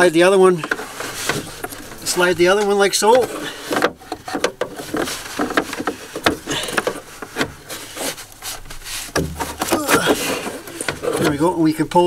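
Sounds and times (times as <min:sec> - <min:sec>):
filter scraping in plastic housing: 0:00.6 - 0:11.7.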